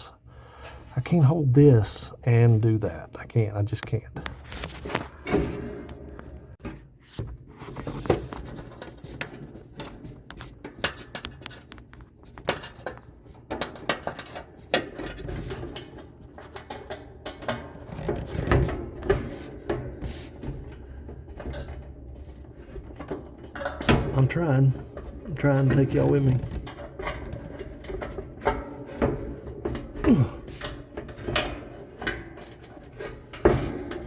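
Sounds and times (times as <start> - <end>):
hands handling dryer parts: 3.8 - 34.0.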